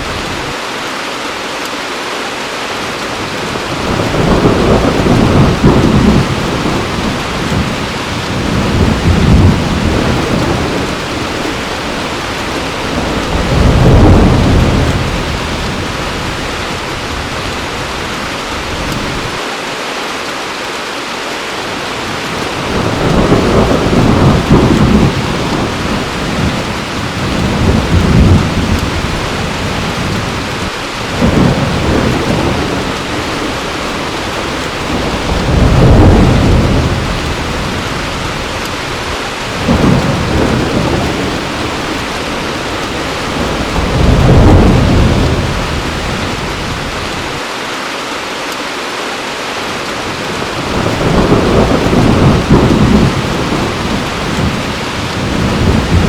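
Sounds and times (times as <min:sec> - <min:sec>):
heavy rain: 0:00.0 - 0:56.0
thunder rolling: 0:03.5 - 0:19.4, 0:22.2 - 0:47.4, 0:50.1 - 0:56.0.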